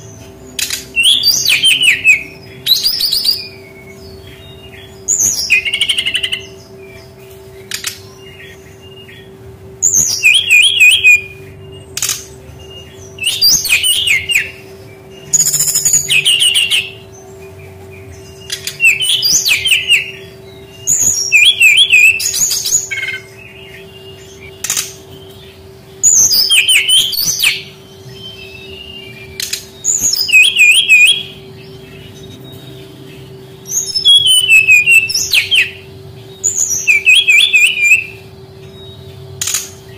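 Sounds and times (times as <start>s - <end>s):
bird singing warbled phrases: 0.0s - 39.9s
faint steady hum: 0.0s - 39.9s.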